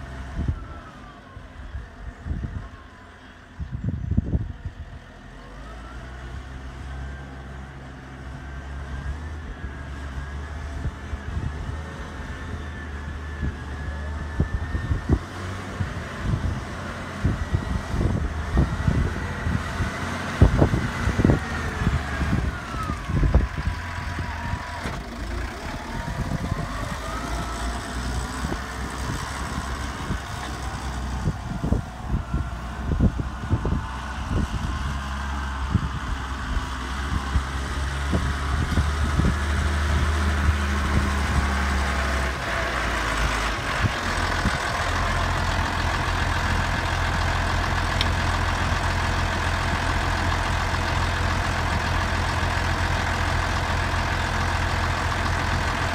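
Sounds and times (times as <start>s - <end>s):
tractor diesel engine humming: 0.0s - 55.9s.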